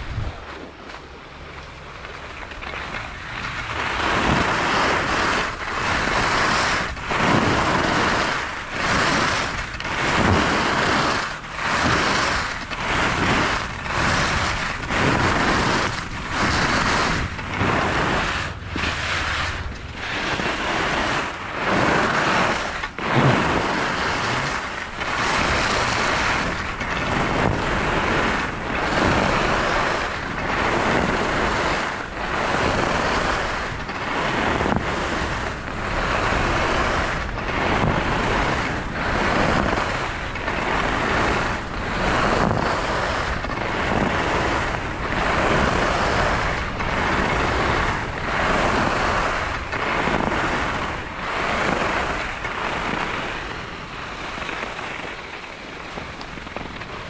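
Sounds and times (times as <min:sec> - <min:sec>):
wind on microphone: 0:00.0 - 0:57.0
skis hissing on snow: 0:03.7 - 0:56.8.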